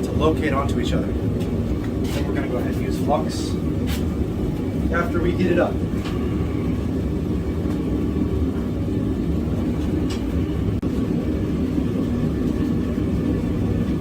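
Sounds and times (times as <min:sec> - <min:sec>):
forge low rumble: 0:00.0 - 0:14.0.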